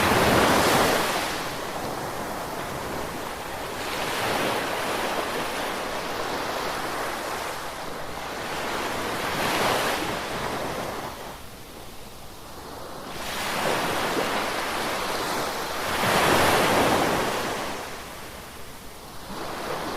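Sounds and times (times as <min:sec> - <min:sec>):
ocean waves washing ashore: 0:00.0 - 0:19.9.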